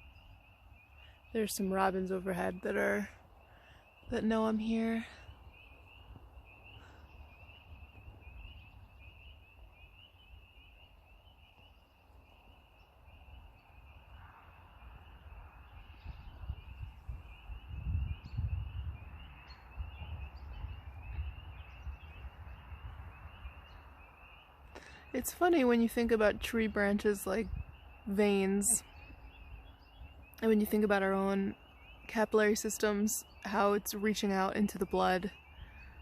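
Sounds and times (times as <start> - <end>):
frogs peeping in chorus: 0.0 - 36.0.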